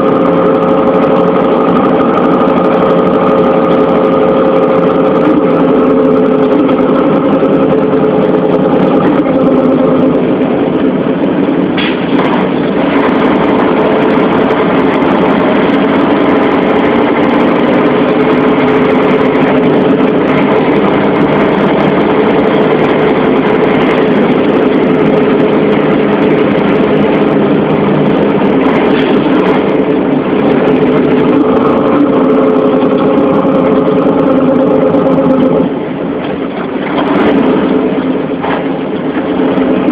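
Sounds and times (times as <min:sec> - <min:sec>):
heavy vehicle engine running: 0:00.0 - 0:39.9.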